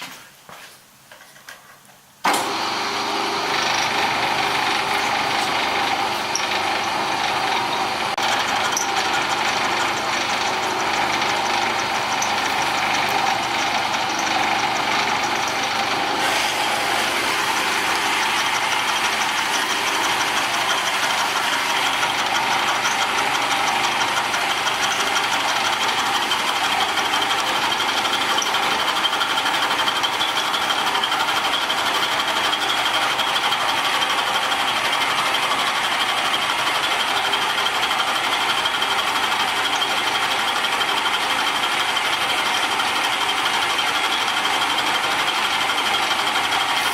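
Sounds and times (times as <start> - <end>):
milling machine cutting metal: 2.3 - 46.9.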